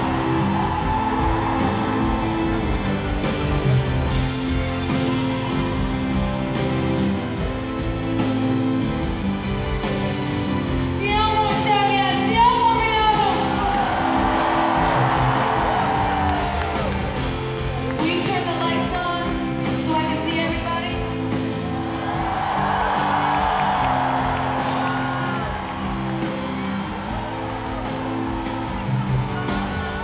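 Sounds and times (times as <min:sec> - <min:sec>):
live pop ballad over loudspeakers: 0:00.0 - 0:30.0.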